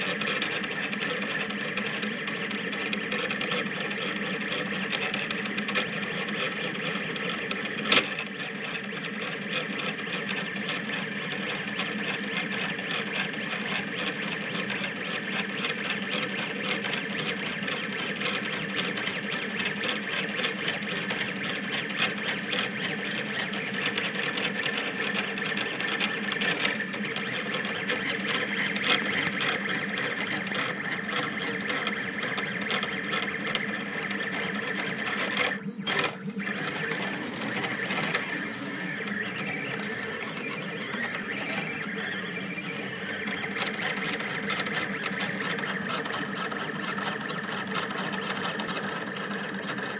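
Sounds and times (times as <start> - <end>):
printer stepper motors whirring: 0.0 - 49.9.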